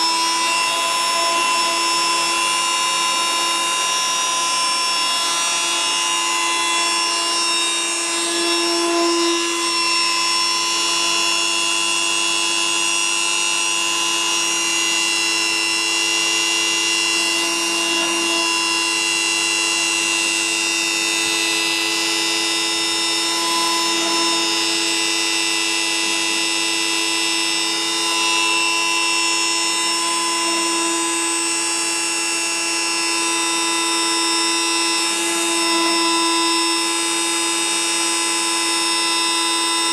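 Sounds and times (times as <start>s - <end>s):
machine motor whine: 0.0s - 39.9s.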